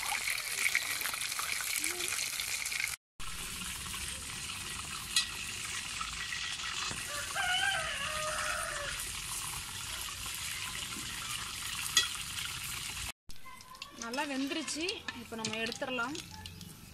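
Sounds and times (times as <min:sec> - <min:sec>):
food deep-frying in oil: 0:00.0 - 0:16.9.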